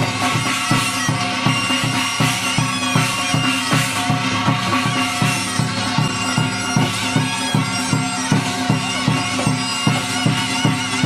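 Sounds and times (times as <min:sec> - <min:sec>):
steady drum beat: 0:00.0 - 0:11.0
wind instrument melody: 0:00.0 - 0:11.0.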